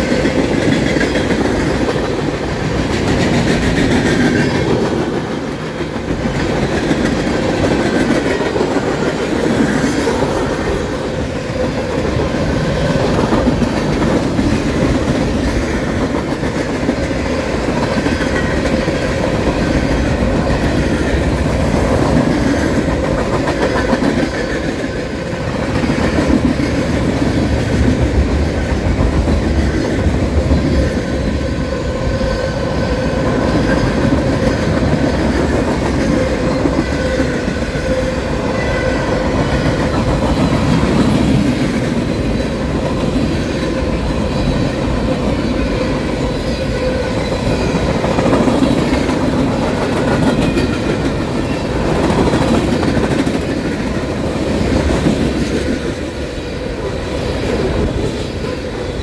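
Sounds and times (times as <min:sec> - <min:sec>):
freight train wheels clacking on rails: 0:00.0 - 0:59.0.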